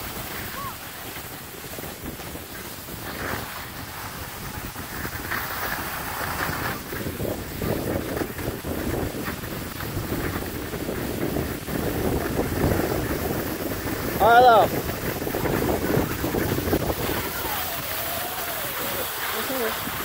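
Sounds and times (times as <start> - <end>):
skis hissing on snow: 0.0 - 20.0
wind on microphone: 0.0 - 20.0.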